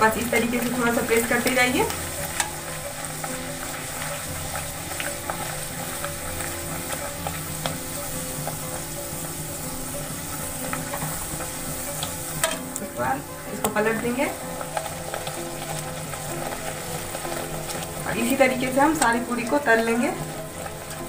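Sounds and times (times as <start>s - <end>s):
bread deep-frying in oil: 0.0s - 21.0s.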